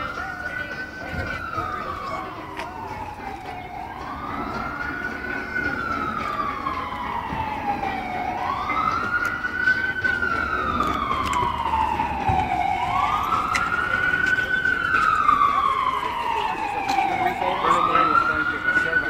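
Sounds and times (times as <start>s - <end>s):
emergency vehicle siren wailing: 0.0s - 19.0s.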